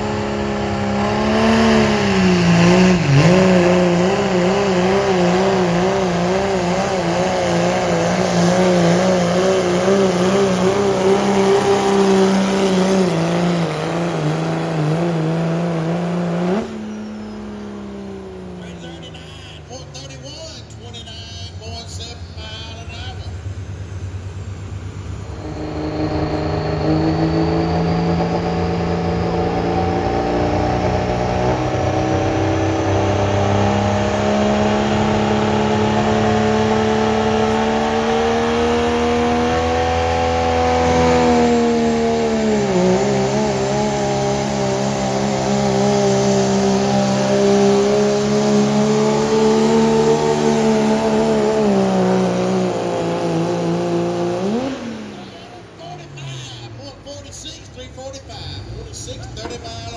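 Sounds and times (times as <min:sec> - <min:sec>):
diesel truck engine at full throttle: 0:00.0 - 0:59.9.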